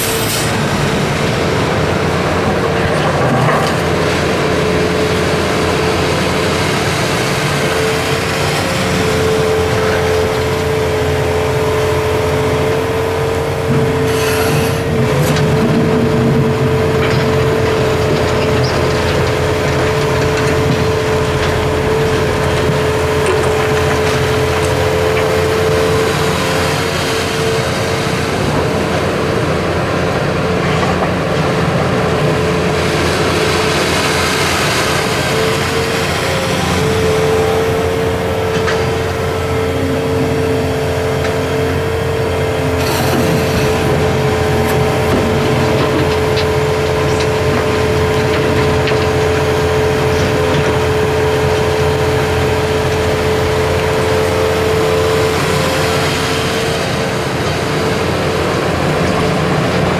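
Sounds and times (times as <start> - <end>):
excavator engine and hydraulics: 0.0 - 59.9
steady hydraulic whine: 0.0 - 59.9.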